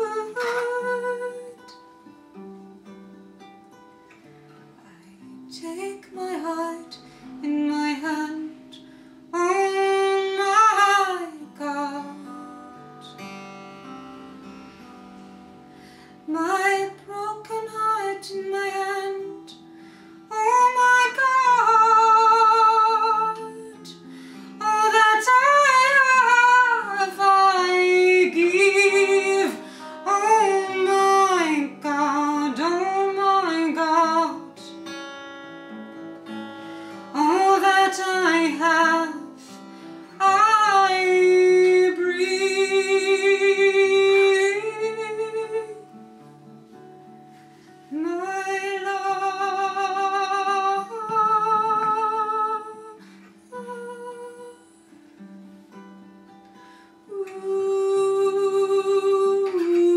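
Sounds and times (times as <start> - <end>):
woman singing: 0.0 - 2.1, 4.6 - 13.8, 16.0 - 35.0, 36.2 - 46.3, 47.7 - 55.0, 57.0 - 59.9
acoustic guitar: 0.0 - 59.9.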